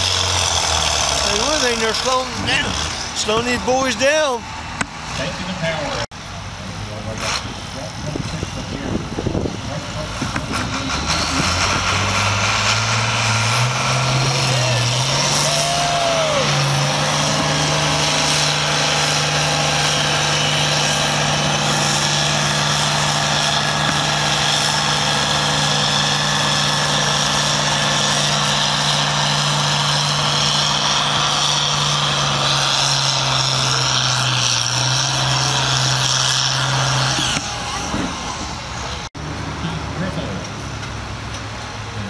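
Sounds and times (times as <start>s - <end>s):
diesel tractor engine under load: 0.0s - 42.0s.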